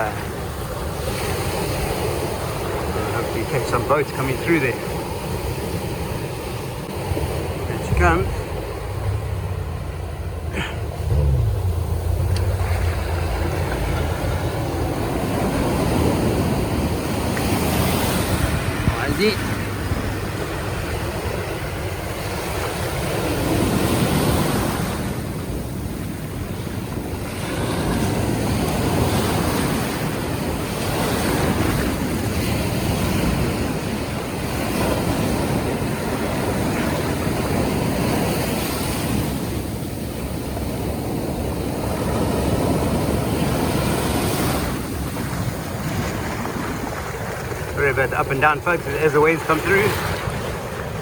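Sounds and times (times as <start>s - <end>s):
ocean surf breaking: 0.0s - 51.0s
wind buffeting microphone: 4.7s - 51.0s.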